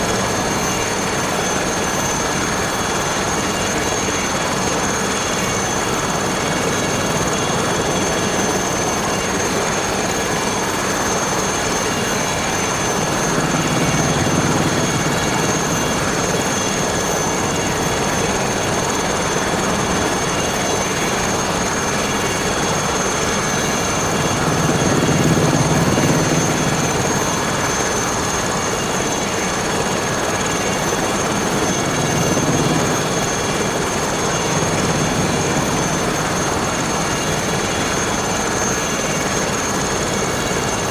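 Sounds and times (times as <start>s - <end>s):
helicopter rotor noise: 0.0s - 40.9s
helicopter turbine whine: 0.0s - 40.9s.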